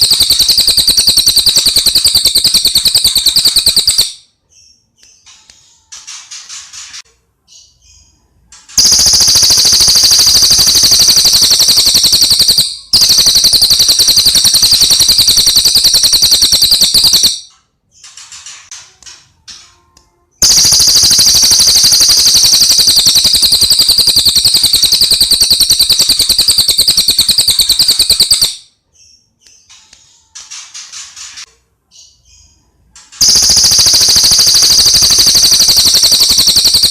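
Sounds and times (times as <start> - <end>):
songbird chirping and trilling: 0.0 - 36.9.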